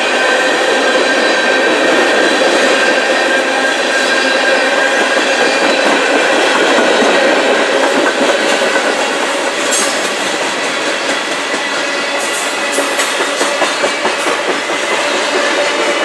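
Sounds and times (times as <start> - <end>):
freight train wheels rumbling on rail: 0.0 - 16.0
wheels clicking over rail joints: 1.7 - 16.0.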